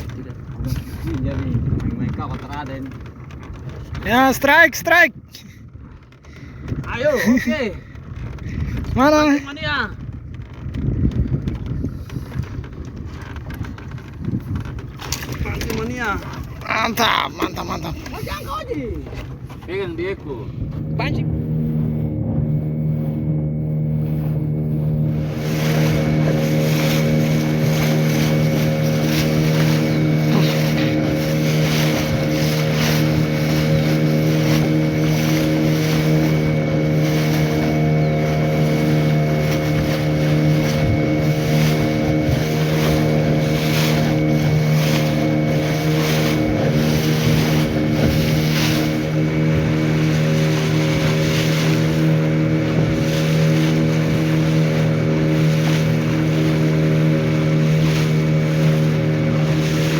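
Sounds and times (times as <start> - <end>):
boat motor humming: 0.0 - 59.9
water noise: 0.0 - 59.9
wind noise: 0.0 - 59.9.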